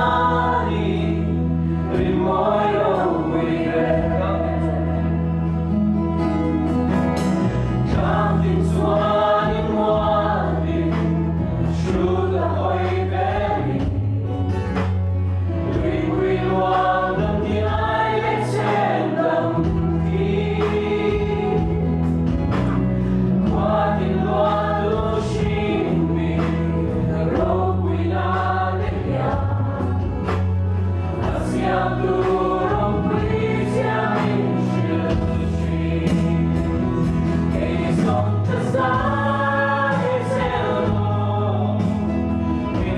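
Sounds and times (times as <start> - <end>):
low bass notes: 0.0 - 42.9
voices singing together: 0.0 - 42.9.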